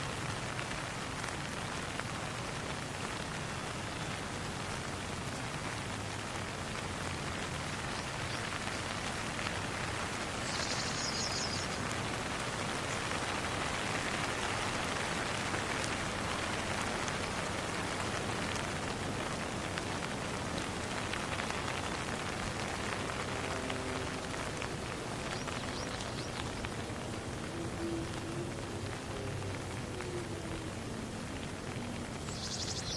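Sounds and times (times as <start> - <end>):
steady rain hissing: 0.0 - 32.9.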